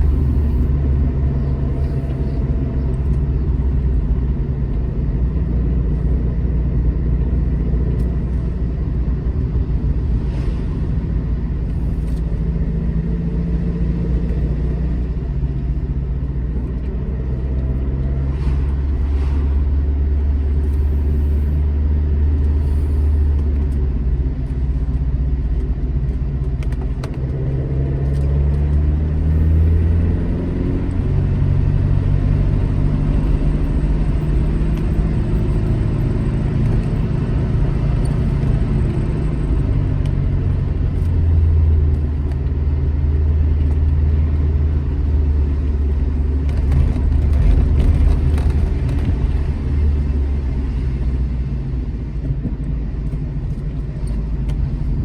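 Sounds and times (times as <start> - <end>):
car engine driving: 0.0 - 55.0.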